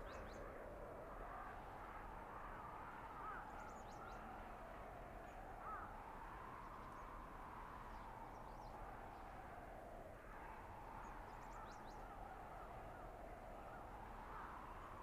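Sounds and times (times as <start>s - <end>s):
howling blizzard wind: 0.0s - 15.0s.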